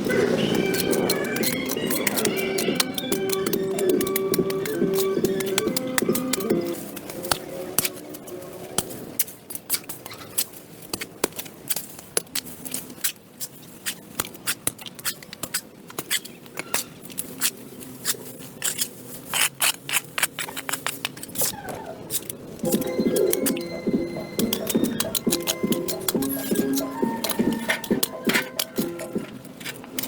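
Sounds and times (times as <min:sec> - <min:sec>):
hand tools scraping and clicking: 0:00.0 - 0:30.0.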